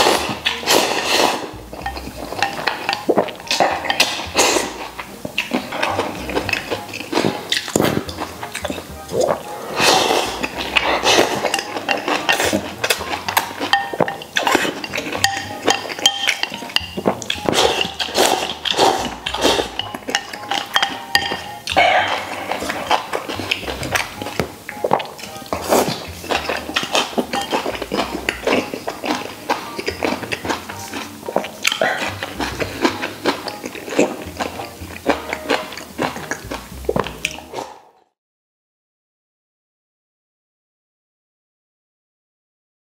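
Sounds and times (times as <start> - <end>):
noodles slurped: 0.0 - 37.8
background music: 0.0 - 38.1
chopsticks clinking on bowl: 1.7 - 9.3, 10.4 - 37.7.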